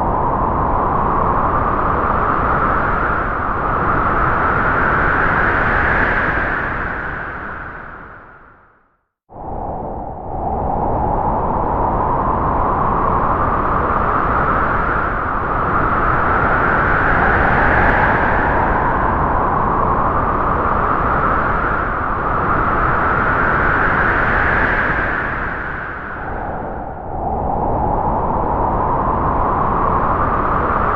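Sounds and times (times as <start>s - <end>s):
wind howling through trees: 0.0s - 30.9s.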